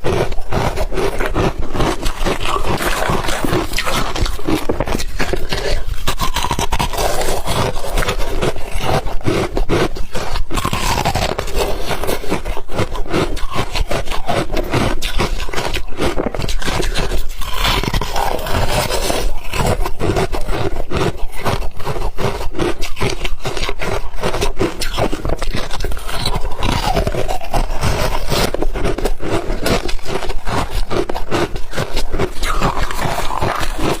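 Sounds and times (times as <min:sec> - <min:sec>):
ice being chewed: 0:00.0 - 0:34.0.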